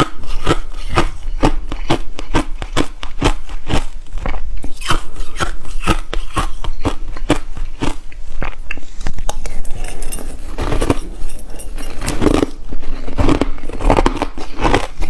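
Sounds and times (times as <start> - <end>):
person chewing crushed ice: 0.0 - 15.0.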